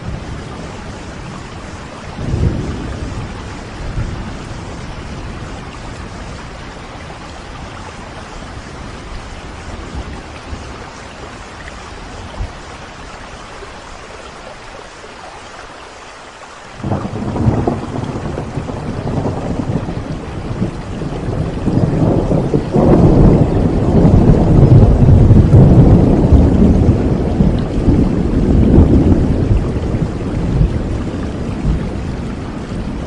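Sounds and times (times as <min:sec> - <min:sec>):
thunder rumbling: 0:00.0 - 0:12.8, 0:16.8 - 0:33.0
steady rain: 0:00.0 - 0:33.0.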